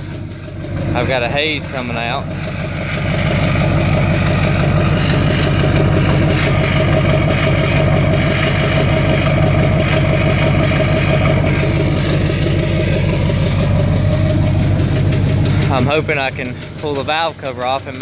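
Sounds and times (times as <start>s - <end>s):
abnormal engine noise: 0.0s - 18.0s
diesel engine idling: 0.0s - 18.0s.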